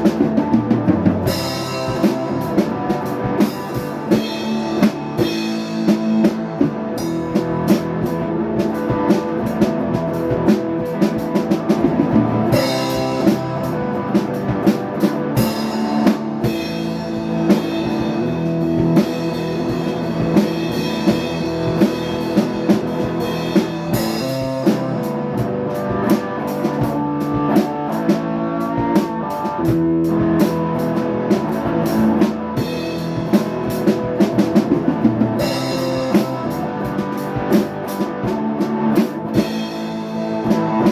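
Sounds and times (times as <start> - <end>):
rock music with drums and guitar: 0.0 - 40.9.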